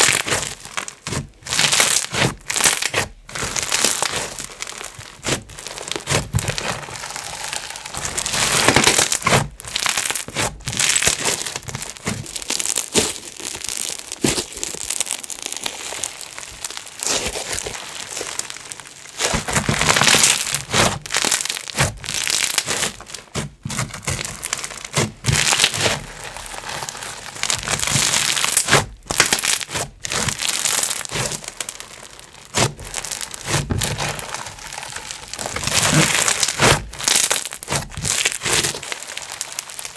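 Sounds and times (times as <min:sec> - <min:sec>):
slime crackling when squeezed: 0:00.0 - 0:39.9.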